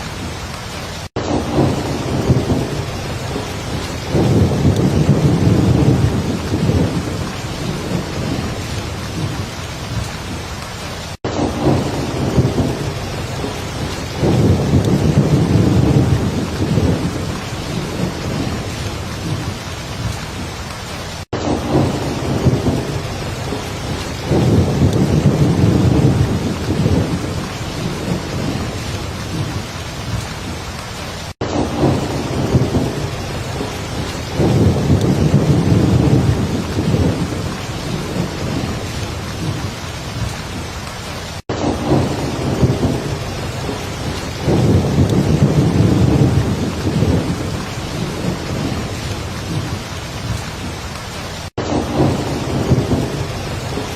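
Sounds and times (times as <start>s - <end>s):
heavy rain falling: 0.0s - 53.9s
thunder rumbling: 0.0s - 53.9s.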